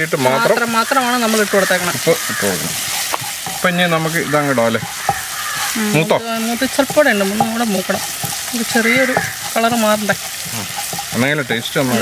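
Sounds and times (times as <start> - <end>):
paste sizzling in hot oil: 0.0 - 12.0
wooden spatula scraping pan: 0.2 - 12.0.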